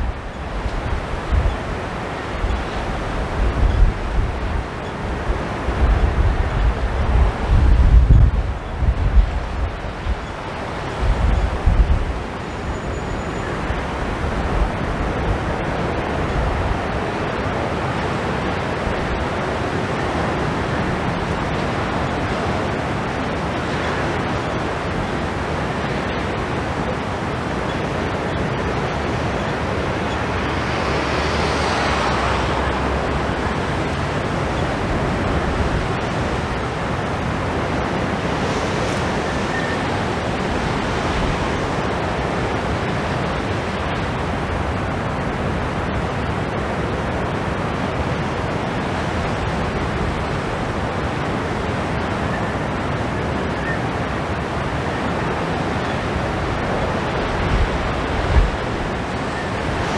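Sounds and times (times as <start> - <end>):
strong wind: 0.0 - 59.9
waves breaking: 0.0 - 59.9
wind buffeting microphone: 0.0 - 59.9.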